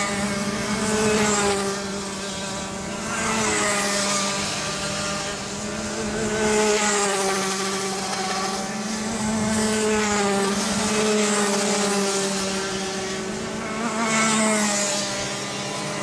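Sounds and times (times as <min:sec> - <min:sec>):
kart engines racing past: 0:00.0 - 0:16.0.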